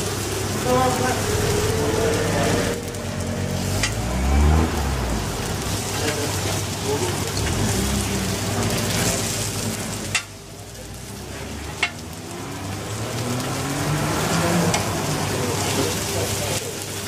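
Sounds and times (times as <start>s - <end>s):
fish sizzling on griddle: 0.0s - 17.0s.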